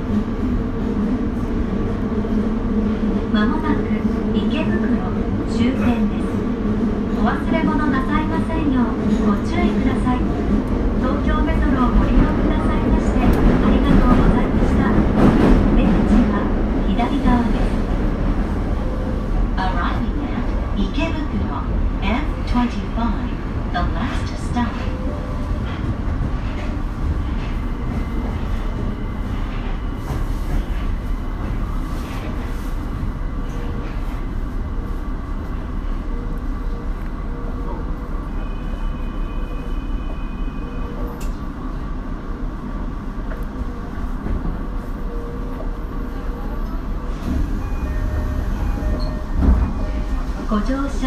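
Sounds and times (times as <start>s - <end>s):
subway train rumbling: 0.0s - 51.0s.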